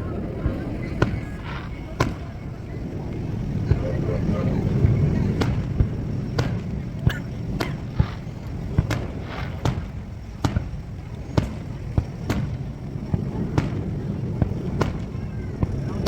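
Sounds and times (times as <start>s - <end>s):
fireworks bangs: 0.0s - 16.0s
steady low rumble: 0.0s - 16.0s.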